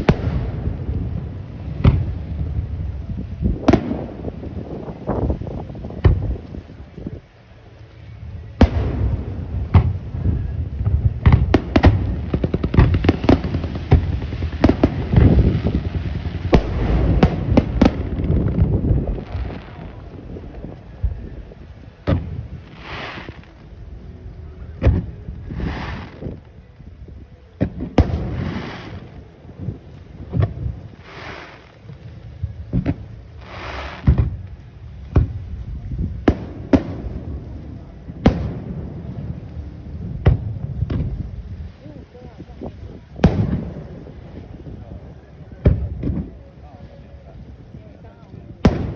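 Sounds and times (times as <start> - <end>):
hissing rush: 0.0 - 27.2, 27.9 - 48.9
fireworks booming: 0.0 - 48.9
fireworks crackling: 0.0 - 48.9
rumble of echoing detonations: 0.0 - 48.9.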